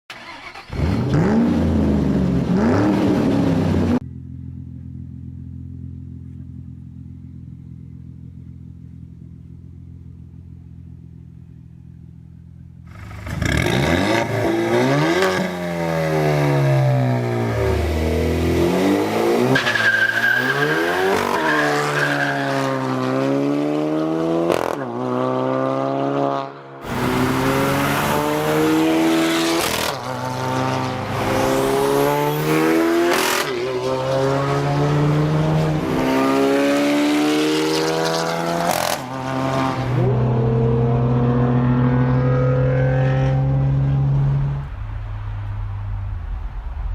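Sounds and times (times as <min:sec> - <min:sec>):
car engine revving and idling: 0:00.2 - 0:19.6, 0:20.2 - 0:46.6.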